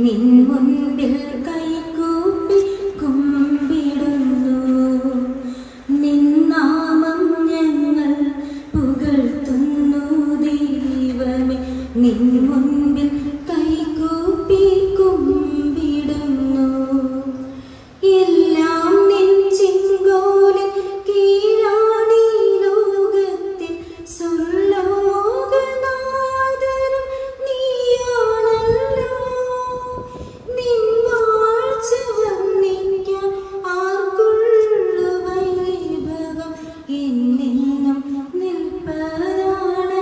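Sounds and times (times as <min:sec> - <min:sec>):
woman singing: 0:00.0 - 0:40.0.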